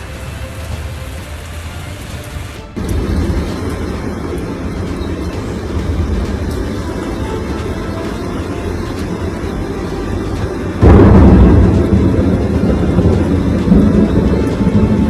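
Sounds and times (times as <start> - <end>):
heavy rain: 0.0 - 15.0
low rumble of storm: 0.0 - 15.0
thunderclap: 2.7 - 15.0.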